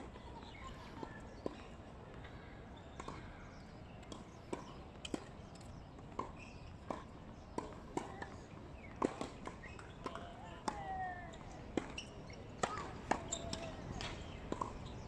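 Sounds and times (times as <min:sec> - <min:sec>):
tennis ball taps and knocks: 0:02.9 - 0:15.0.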